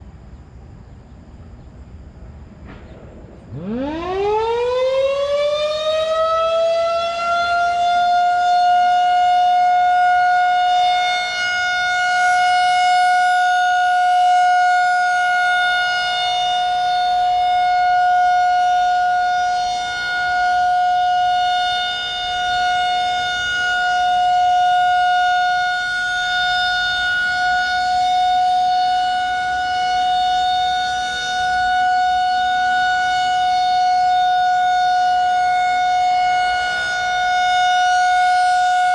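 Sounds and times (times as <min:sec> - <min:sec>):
warning siren winding up: 0:03.5 - 0:38.9.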